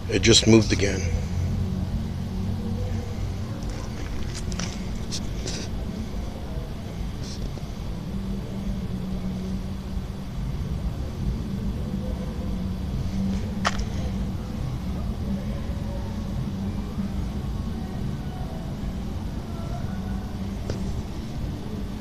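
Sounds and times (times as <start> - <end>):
low rumble with hum: 0.0 - 22.0.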